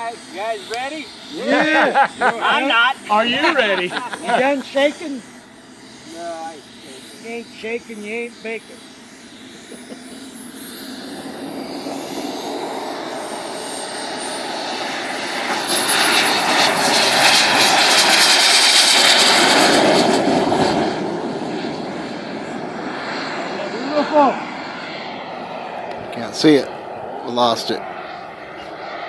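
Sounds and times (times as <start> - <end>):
model jet turbine whine: 0.0 - 29.0.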